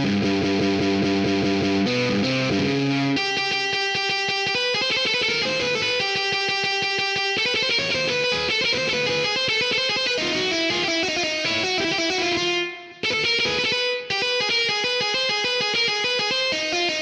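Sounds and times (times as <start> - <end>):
electric guitar fast picked melody: 0.0 - 17.0.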